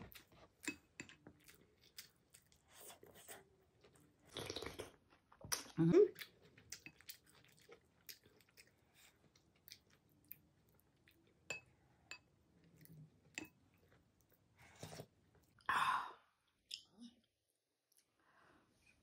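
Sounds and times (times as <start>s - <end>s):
chewing soft wet food: 0.0s - 15.7s.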